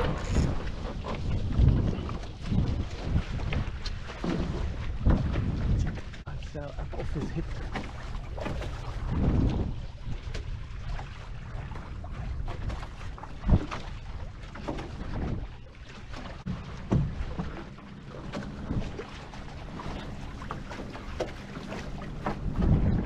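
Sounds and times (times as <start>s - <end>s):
sharp knocks from boat: 0.0s - 6.3s, 7.0s - 23.0s
wind buffeting microphone: 0.0s - 15.6s, 16.4s - 23.0s
water washing past hulls: 0.0s - 23.0s.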